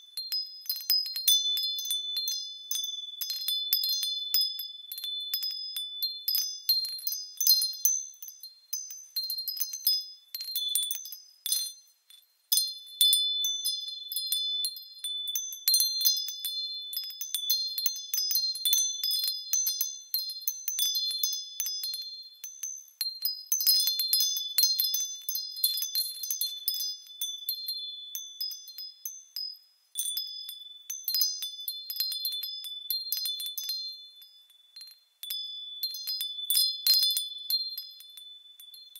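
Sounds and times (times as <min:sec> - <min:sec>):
wind chimes tinkling: 0:00.0 - 0:38.9.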